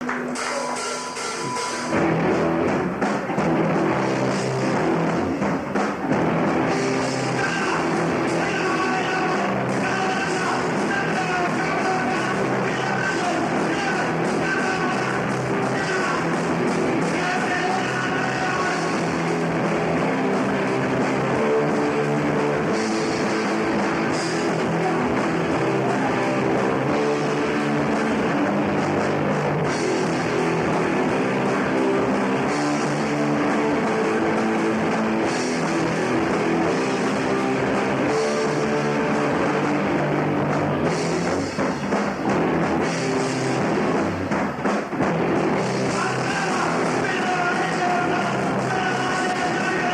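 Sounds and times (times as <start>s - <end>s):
punk rock band playing live: 0.0s - 49.9s.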